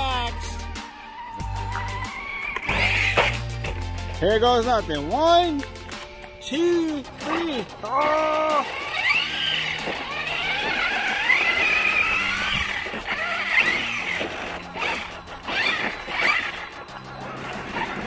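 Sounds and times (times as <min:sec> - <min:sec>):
electric motors whining: 0:00.0 - 0:03.9, 0:07.3 - 0:18.0
background music: 0:00.0 - 0:18.0.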